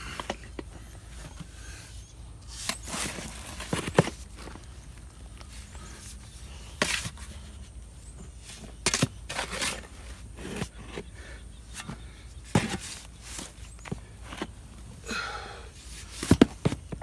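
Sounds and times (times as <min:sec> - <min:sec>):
soil scraping and knocking: 0:02.5 - 0:17.0.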